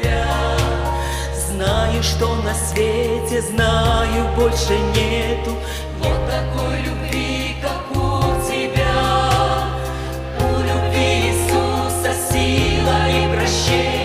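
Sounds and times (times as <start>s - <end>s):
women's choir singing: 0.0s - 2.5s, 4.0s - 14.0s
sustained bass accompaniment: 0.0s - 14.0s.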